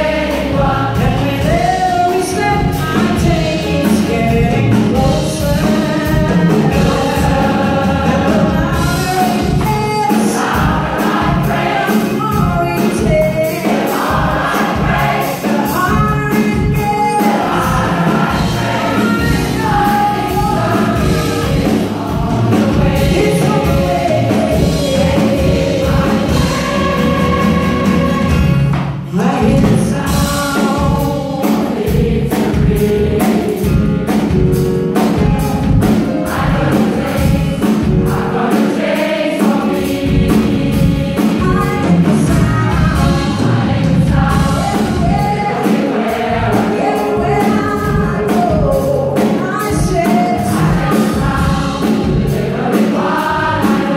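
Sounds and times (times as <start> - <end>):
gospel choir singing: 0.0 - 53.9
live band playing: 0.0 - 53.9.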